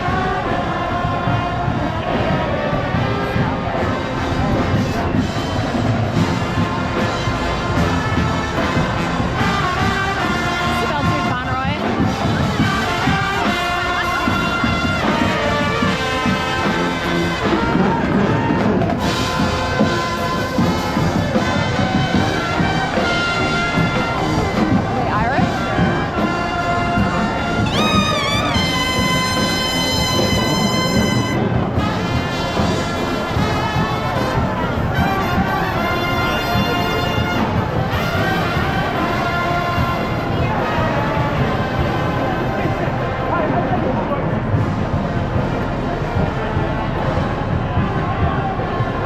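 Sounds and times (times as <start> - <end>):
drum kit steady beat: 0.0 - 42.8
brass instruments playing melody: 0.0 - 49.0.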